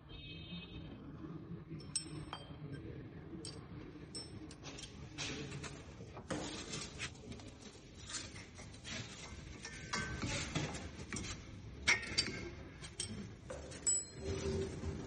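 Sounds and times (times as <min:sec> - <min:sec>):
tools and metal parts clinking: 0:01.8 - 0:15.0.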